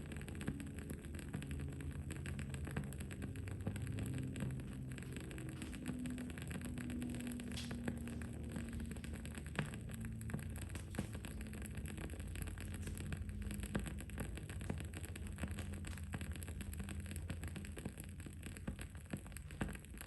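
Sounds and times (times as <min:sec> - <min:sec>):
candle wick crackling pops: 0:00.0 - 0:20.0
low background hum: 0:00.0 - 0:20.0.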